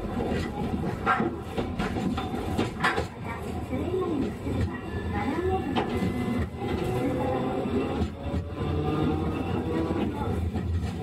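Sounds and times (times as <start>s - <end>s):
tram wheels rumbling: 0.0s - 11.0s.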